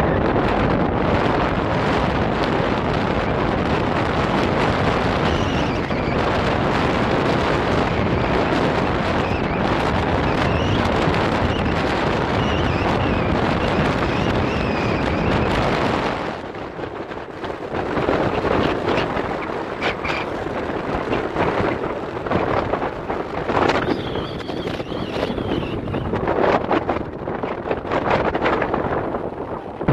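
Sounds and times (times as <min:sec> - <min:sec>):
road rush: 0:00.0 - 0:29.9
wind buffeting microphone: 0:00.0 - 0:29.9.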